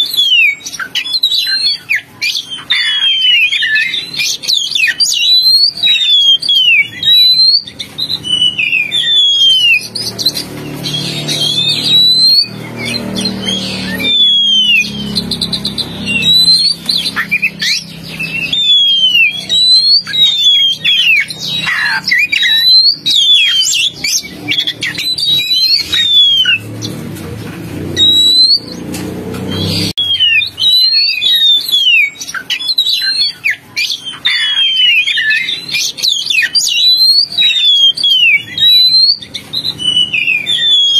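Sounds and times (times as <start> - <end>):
bird song whistles: 0.0 - 27.0, 27.8 - 40.9.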